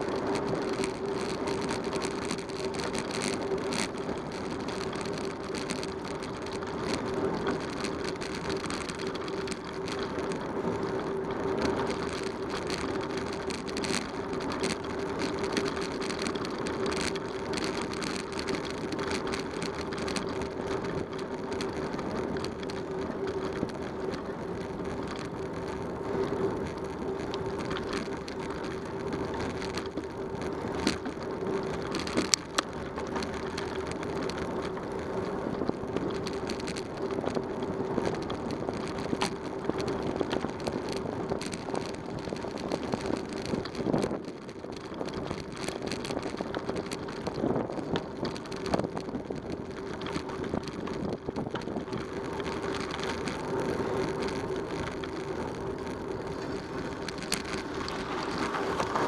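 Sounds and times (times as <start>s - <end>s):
bicycle tyres rolling on rough road: 0.0s - 59.0s
bike rattling: 0.0s - 59.0s.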